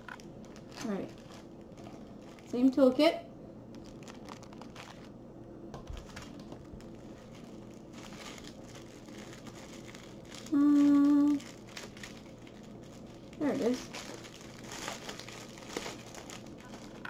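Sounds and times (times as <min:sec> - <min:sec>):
plastic bags crinkling: 0:00.0 - 0:03.0, 0:03.7 - 0:05.2, 0:05.8 - 0:17.0.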